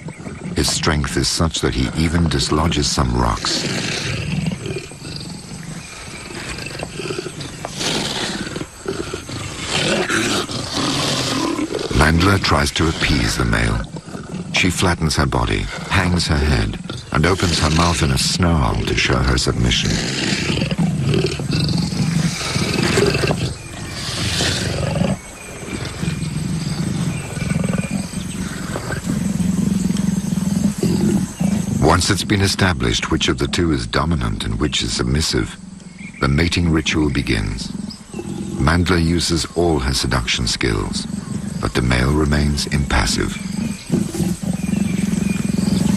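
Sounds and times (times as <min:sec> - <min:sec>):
leopards growling and snarling: 0:00.0 - 0:45.9.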